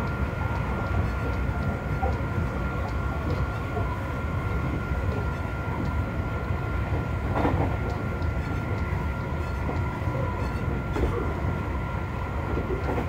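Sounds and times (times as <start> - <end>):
constant high whine: 0.0 - 13.0
wheels rumbling on rail: 0.0 - 13.0.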